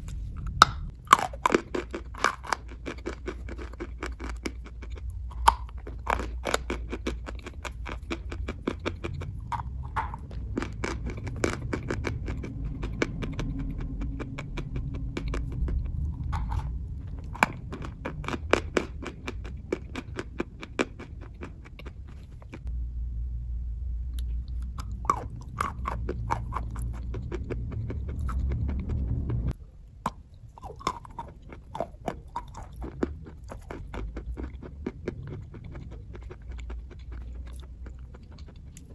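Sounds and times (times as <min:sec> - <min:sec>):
chalk being chewed: 0:00.0 - 0:22.7, 0:24.2 - 0:29.5, 0:30.1 - 0:38.9
low rumble: 0:00.0 - 0:38.9.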